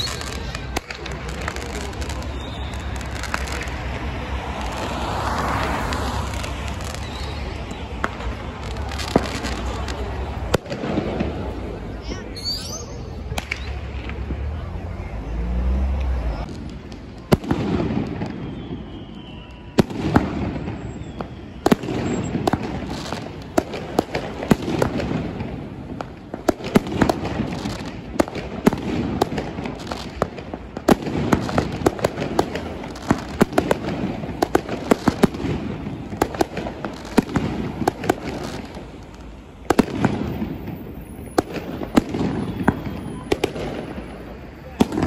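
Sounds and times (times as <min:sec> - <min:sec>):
fireworks bangs and crackles: 0:00.0 - 0:45.0
fireworks rumble: 0:00.0 - 0:45.0.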